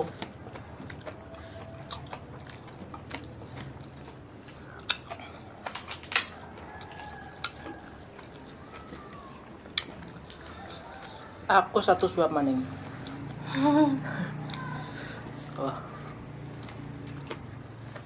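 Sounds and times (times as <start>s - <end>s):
people chewing and lip smacking: 0.0s - 12.1s, 12.7s - 18.0s.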